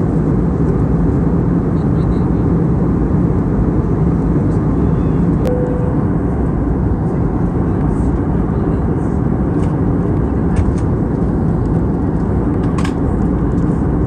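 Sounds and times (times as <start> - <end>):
airplane cabin engine rush: 0.0 - 14.0.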